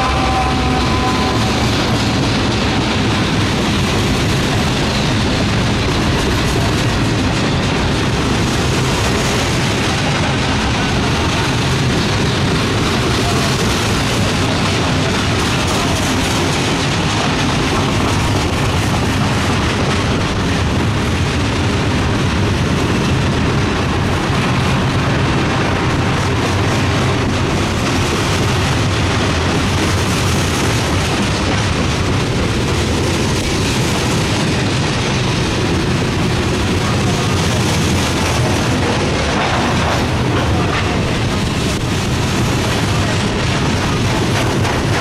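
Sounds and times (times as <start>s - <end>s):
freight train wheels rumbling: 0.0s - 45.0s.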